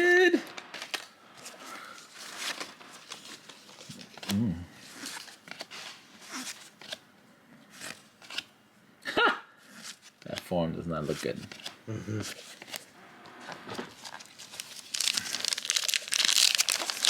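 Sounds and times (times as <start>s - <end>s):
cardboard cards rustling: 0.6s - 7.0s, 9.7s - 17.0s.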